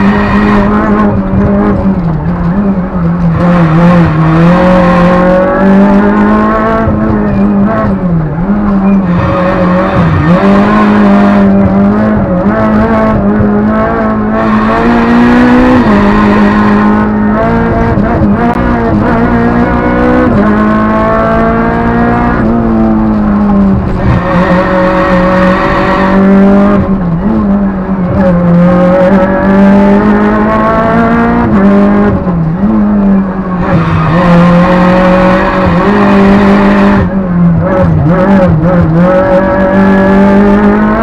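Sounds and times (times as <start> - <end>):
car engine revving hard: 0.0 - 41.0.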